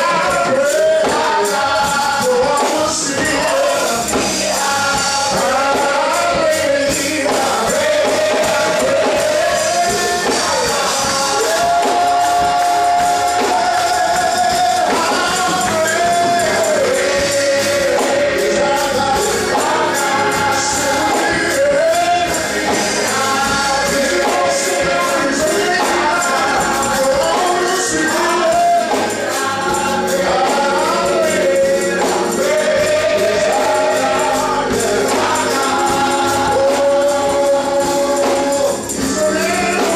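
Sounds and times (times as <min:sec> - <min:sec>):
gospel choir singing: 0:00.0 - 0:39.9
tambourine shaking: 0:00.0 - 0:39.9.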